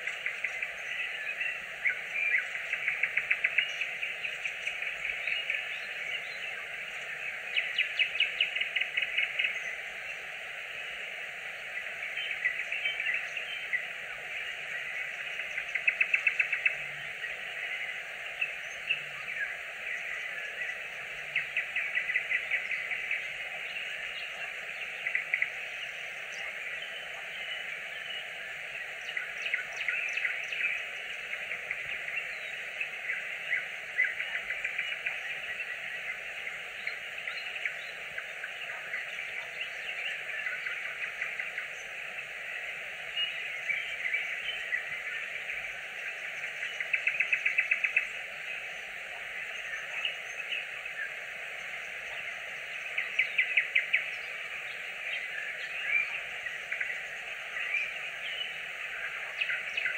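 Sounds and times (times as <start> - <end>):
high bird chorus: 0.0 - 59.9
nightingale trills: 0.0 - 59.9.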